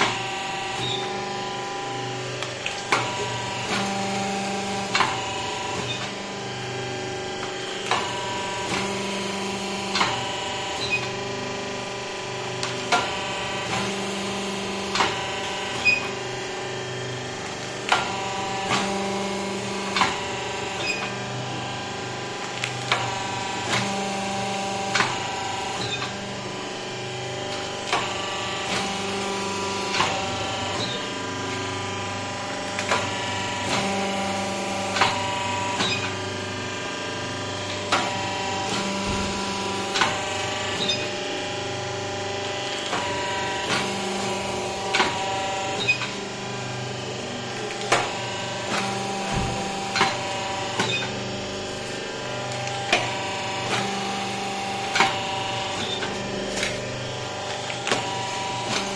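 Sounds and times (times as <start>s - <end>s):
machine motor hum: 0.0s - 58.9s.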